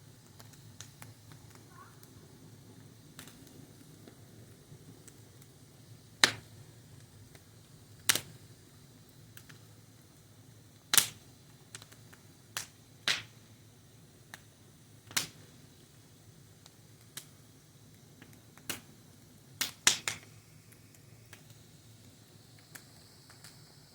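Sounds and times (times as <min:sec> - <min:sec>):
faint low background noise: 0:00.0 - 0:23.9
fire crackling and popping: 0:00.0 - 0:23.9.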